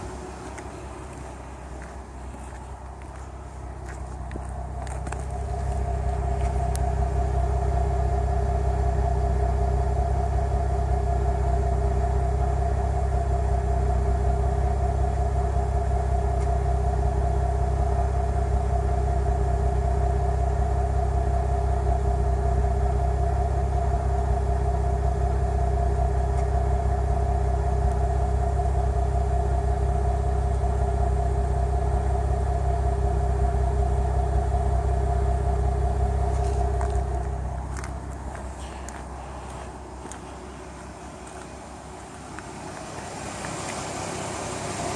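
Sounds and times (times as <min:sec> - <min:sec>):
engine running: 0:00.0 - 0:44.9
engine ticking: 0:00.0 - 0:44.9.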